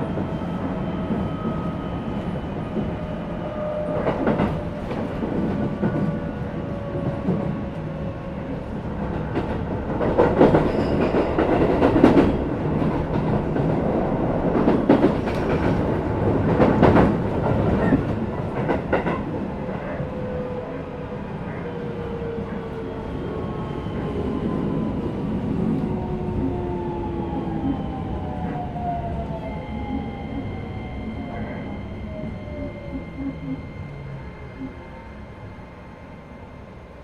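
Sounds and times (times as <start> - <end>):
train rolling rumble: 0.0 - 37.0.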